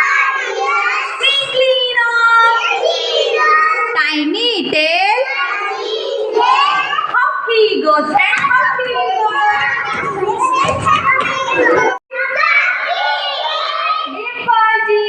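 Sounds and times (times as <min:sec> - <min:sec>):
children calling out: 0:00.0 - 0:04.0, 0:05.2 - 0:07.5, 0:08.2 - 0:15.0.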